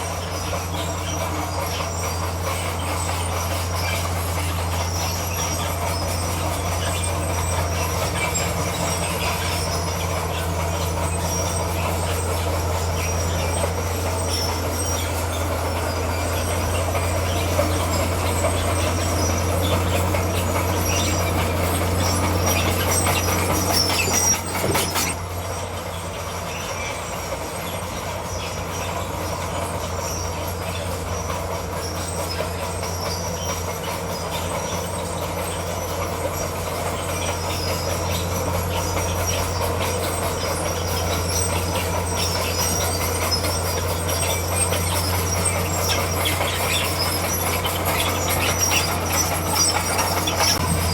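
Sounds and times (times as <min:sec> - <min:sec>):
bulldozer diesel engine running: 0:00.0 - 0:50.9
metallic clatter of steel tracks: 0:00.0 - 0:50.9.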